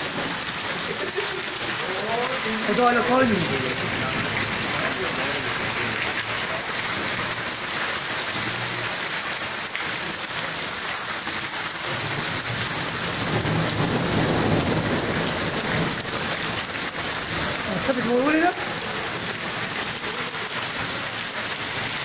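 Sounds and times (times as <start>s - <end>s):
heavy rain pouring: 0.0s - 22.0s
rainwater running along street: 0.0s - 22.0s.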